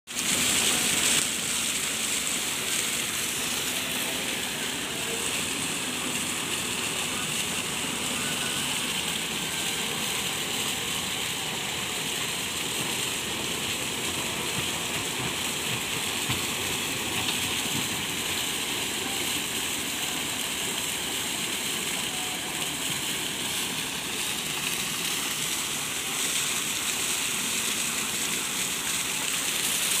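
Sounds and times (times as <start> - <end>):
water gushing into pool: 0.1 - 30.0.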